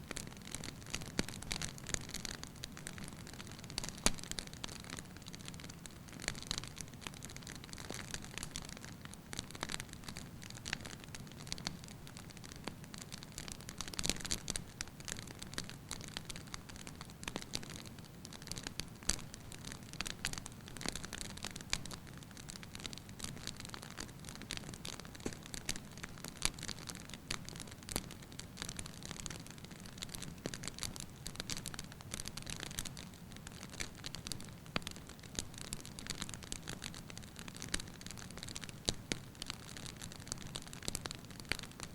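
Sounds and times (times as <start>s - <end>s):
wood fire crackling and popping: 0.1s - 41.9s.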